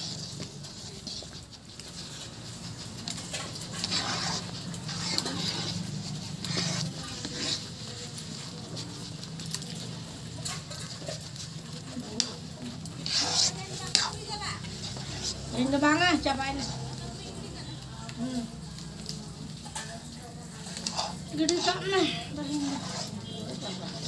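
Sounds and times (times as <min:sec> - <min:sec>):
ladle stirring thick batter: 0:00.0 - 0:24.0.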